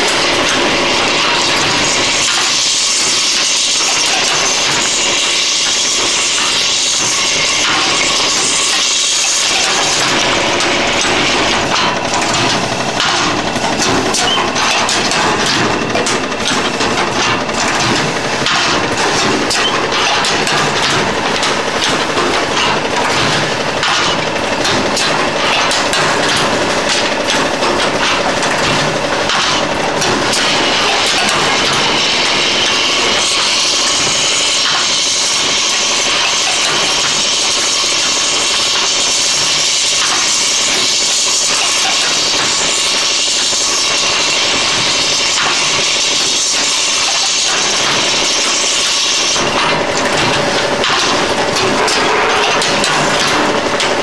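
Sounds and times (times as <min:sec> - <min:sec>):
clatter of small parts: 0:00.0 - 0:54.0.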